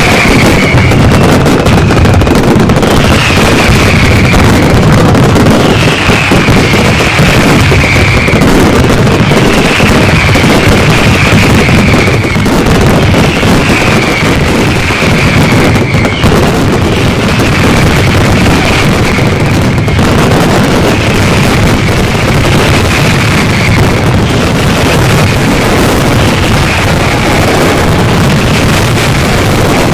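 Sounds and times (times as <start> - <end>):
falling firework whistle: 0.0 - 29.9
fireworks crackling bangs: 0.0 - 29.9.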